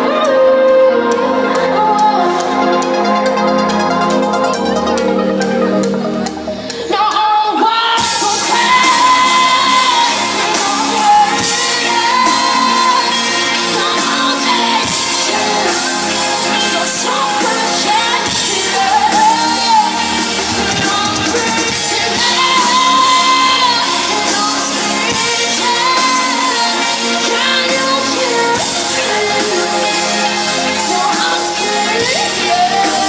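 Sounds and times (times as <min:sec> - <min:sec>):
woman singing: 0:00.0 - 0:05.2, 0:06.7 - 0:33.0
live rock band: 0:00.0 - 0:33.0.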